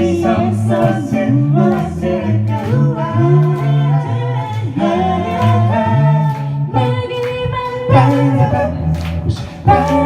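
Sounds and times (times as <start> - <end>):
a cappella group singing: 0.0 - 10.0.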